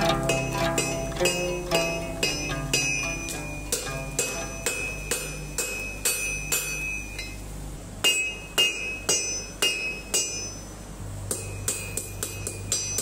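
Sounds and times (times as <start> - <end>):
hammer striking iron on anvil: 0.0 - 7.4, 8.0 - 13.0.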